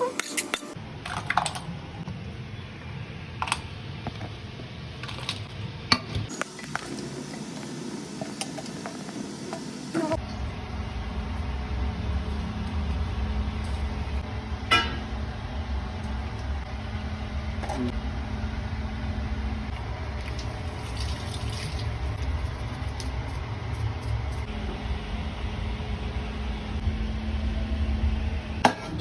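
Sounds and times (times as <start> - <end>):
low rumble of stove cooking: 0.1 - 29.0.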